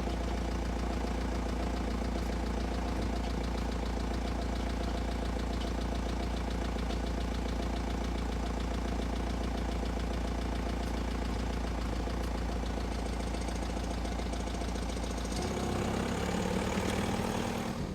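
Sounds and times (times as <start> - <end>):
diesel engine idling: 0.0 - 17.9.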